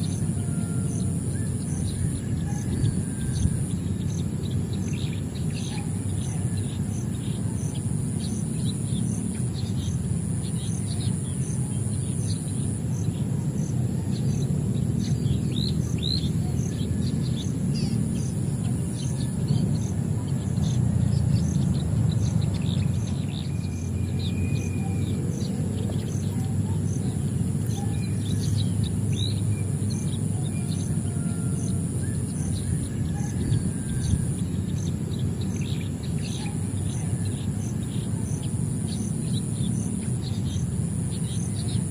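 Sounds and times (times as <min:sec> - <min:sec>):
constant low rumble: 0:00.0 - 0:41.9
small birds chirping: 0:00.0 - 0:41.9
steady high whine: 0:00.0 - 0:41.9.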